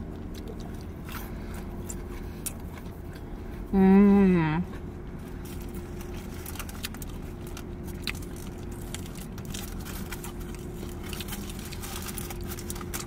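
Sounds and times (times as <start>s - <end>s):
crunchy chewing and mouth clicks: 0.0s - 3.7s, 4.6s - 13.0s
car interior hum: 0.0s - 13.0s.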